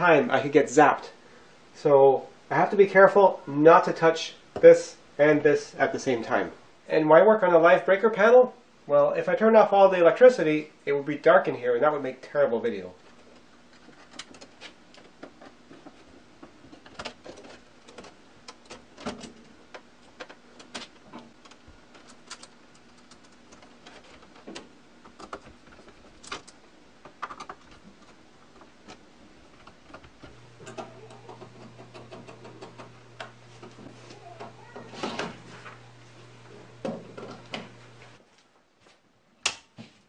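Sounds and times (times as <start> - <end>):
low steady hum: 0.0 - 39.6.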